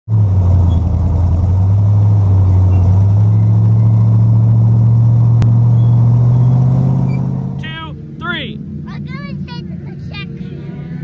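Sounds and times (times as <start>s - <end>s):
race car engine droning: 0.1s - 11.0s.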